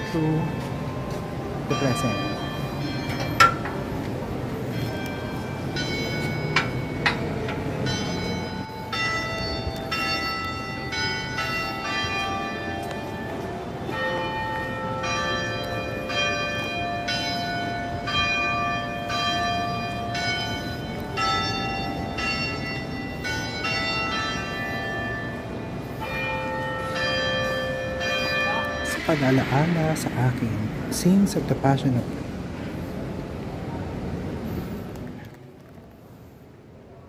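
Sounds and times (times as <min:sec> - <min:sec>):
church bells pealing: 0:00.0 - 0:34.8.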